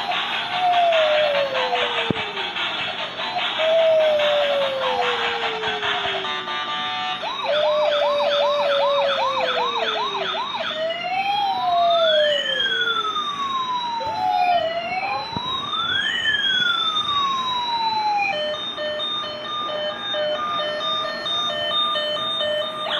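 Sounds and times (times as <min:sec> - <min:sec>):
toy police siren: 0:00.0 - 0:22.9.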